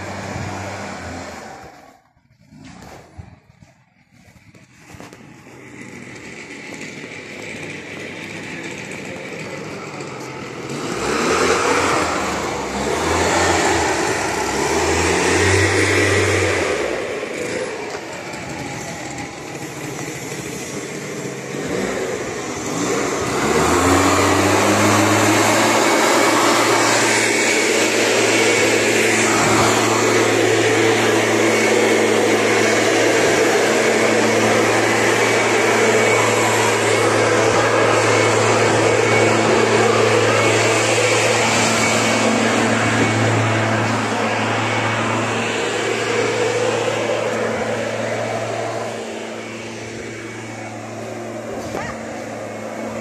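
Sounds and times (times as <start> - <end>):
brushcutter engine revving: 0.0 - 53.0.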